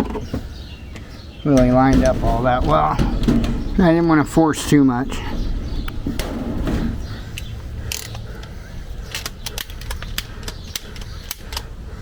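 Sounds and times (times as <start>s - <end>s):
low wind rumble on microphone: 1.6s - 12.0s.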